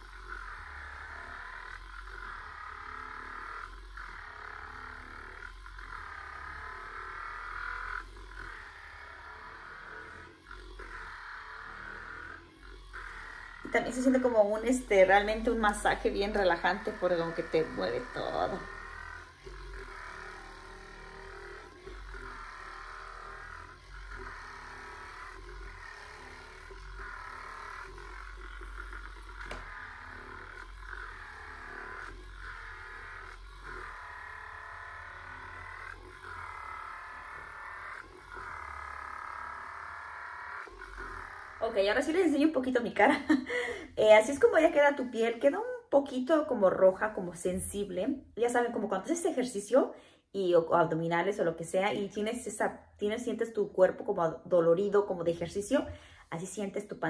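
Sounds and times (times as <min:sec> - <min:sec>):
electric massager whirring: 0:00.0 - 0:57.0.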